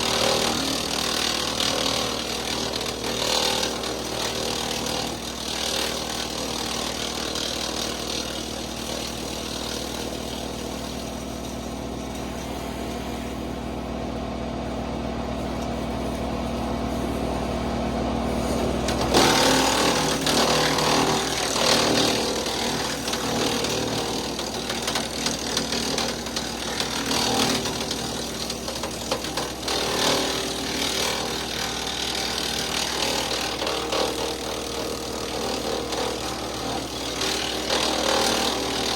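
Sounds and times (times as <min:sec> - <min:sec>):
wood chipper chipping wood: 0:00.0 - 0:38.9.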